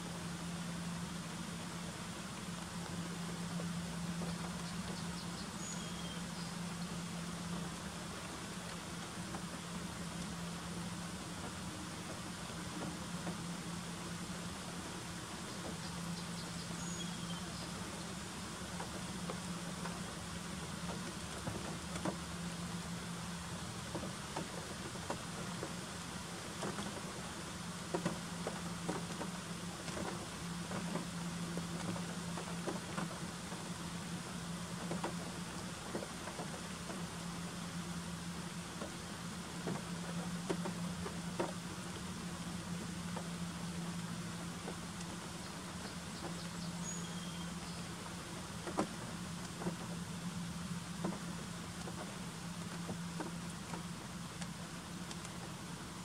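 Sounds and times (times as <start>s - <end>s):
steady low hum: 0.0s - 56.0s
steady rain hiss: 0.0s - 56.0s.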